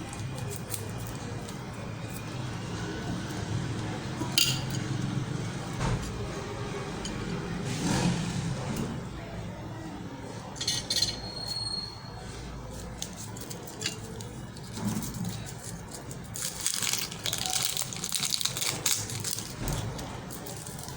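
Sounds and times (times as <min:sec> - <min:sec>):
utensils and dishes clinking: 0:00.0 - 0:09.0, 0:10.4 - 0:20.9.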